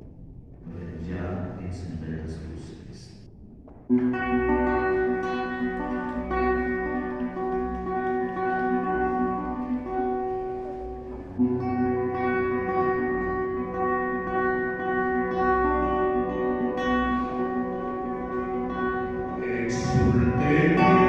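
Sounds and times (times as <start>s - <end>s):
instrumental music with held chords: 3.9s - 21.0s.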